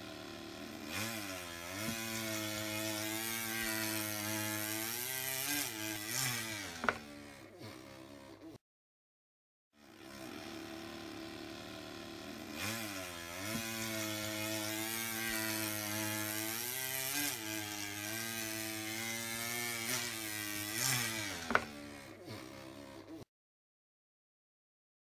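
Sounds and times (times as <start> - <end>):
person imitating a chainsaw: 0.0 - 8.6, 9.8 - 23.3.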